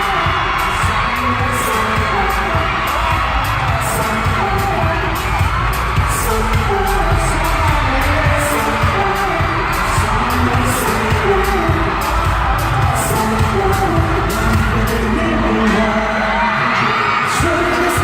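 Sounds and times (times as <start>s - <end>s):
heavy bass beat: 0.0s - 18.0s
person singing: 0.0s - 18.0s
pop song through loudspeakers: 0.0s - 18.0s.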